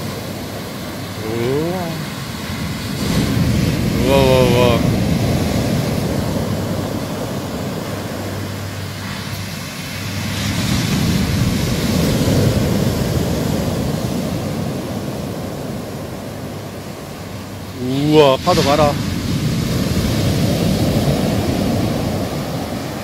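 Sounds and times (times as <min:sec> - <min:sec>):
surf breaking on shore: 0:00.0 - 0:23.0.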